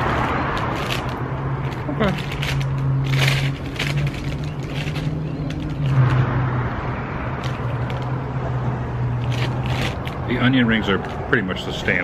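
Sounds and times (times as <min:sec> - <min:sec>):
paper bag rustling: 0:00.0 - 0:06.2, 0:07.4 - 0:08.2, 0:09.2 - 0:11.8
road traffic passing: 0:00.0 - 0:12.0.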